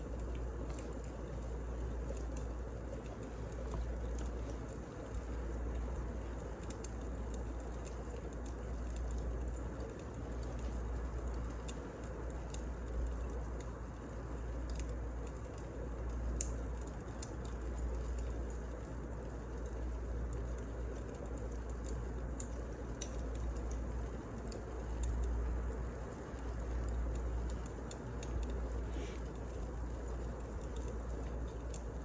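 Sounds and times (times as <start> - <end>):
fire crackling and popping: 0.0 - 32.0
wood fire rumble: 0.0 - 32.0.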